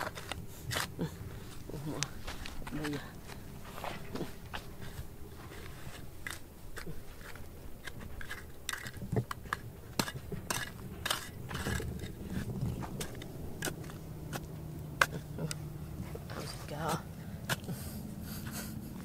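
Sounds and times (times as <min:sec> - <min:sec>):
hand tool digging gravel and rock: 0:00.0 - 0:15.6
low steady hum: 0:00.0 - 0:19.0.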